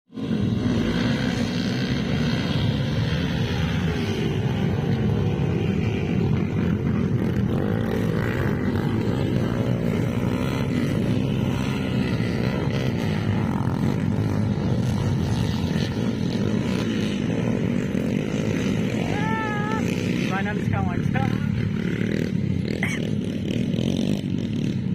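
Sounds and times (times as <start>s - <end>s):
motocross bike engine: 0.1s - 24.9s.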